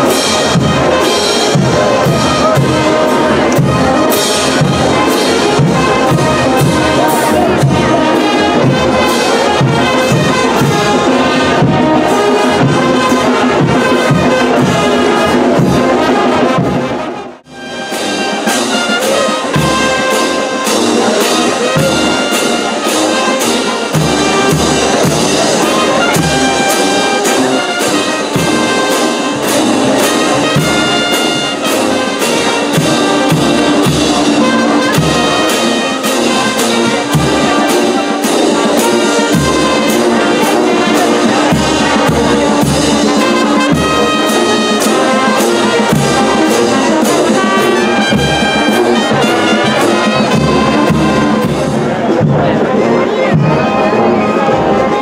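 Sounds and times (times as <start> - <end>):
brass band playing: 0.0 - 55.0
steady drum beat: 0.0 - 55.0.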